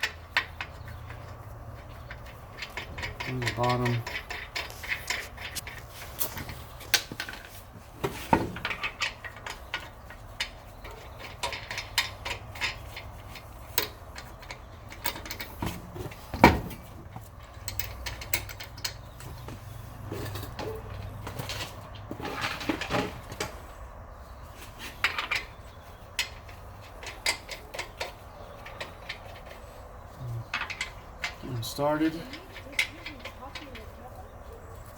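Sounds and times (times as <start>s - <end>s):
metal clicks of lug nuts threading: 0.0s - 23.6s, 25.0s - 33.9s.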